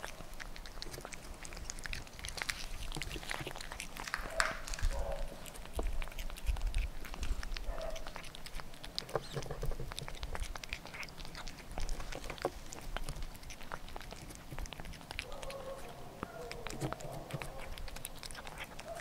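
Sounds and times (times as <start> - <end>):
cat chewing and licking: 0.0 - 19.0.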